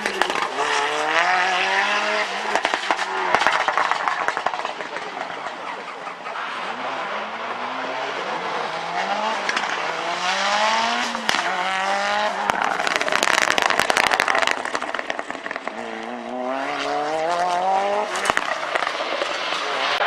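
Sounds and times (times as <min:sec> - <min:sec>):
engine crackling: 0:00.0 - 0:20.0
race car engine accelerating: 0:00.0 - 0:20.0.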